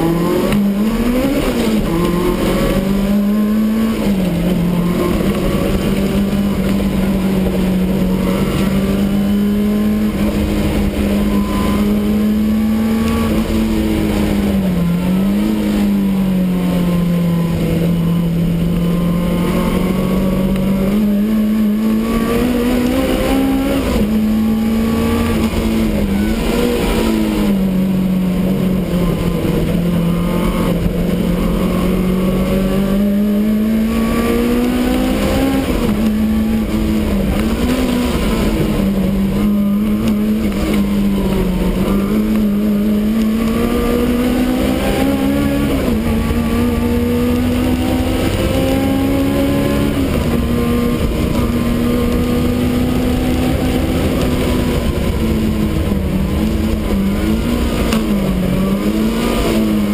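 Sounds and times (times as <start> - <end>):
race car engine from inside cabin: 0.0 - 59.9.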